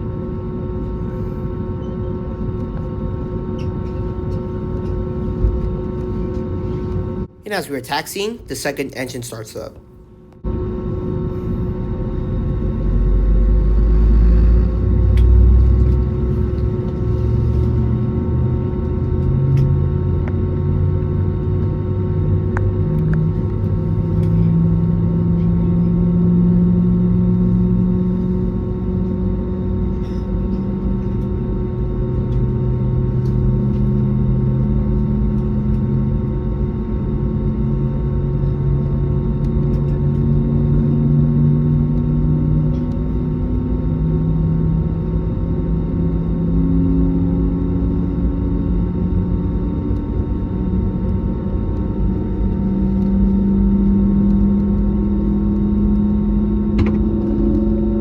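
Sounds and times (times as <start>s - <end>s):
aircraft engine drone in cabin: 0.0s - 58.0s.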